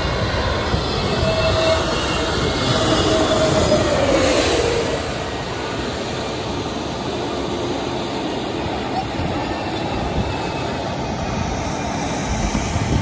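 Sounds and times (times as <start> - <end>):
jet airliner engines whining: 0.0 - 13.0.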